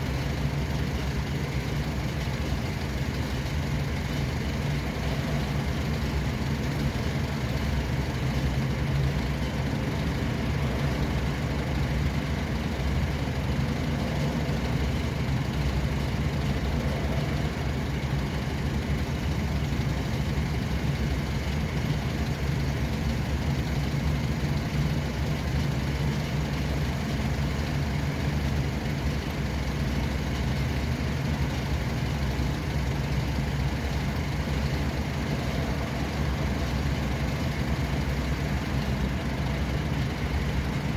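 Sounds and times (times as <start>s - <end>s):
road noise: 0.0s - 40.9s
vehicle engine hum: 0.0s - 40.9s.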